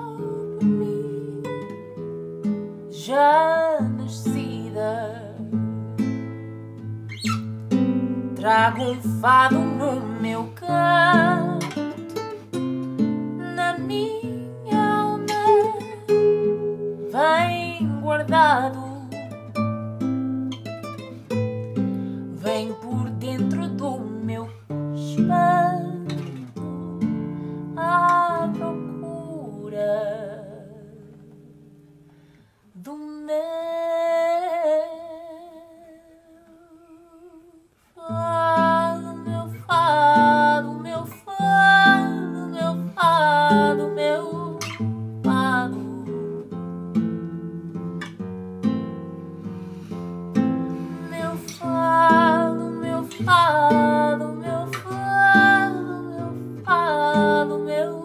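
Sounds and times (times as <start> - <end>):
woman singing: 0.0 - 2.1, 2.7 - 6.0, 8.4 - 19.7, 22.2 - 31.7, 32.8 - 46.7, 50.7 - 58.0
classical guitar: 0.0 - 58.0.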